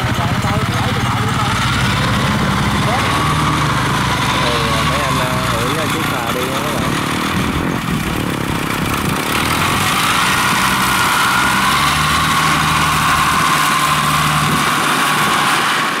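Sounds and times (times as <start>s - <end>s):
boat engine running with whine: 0.0s - 16.0s.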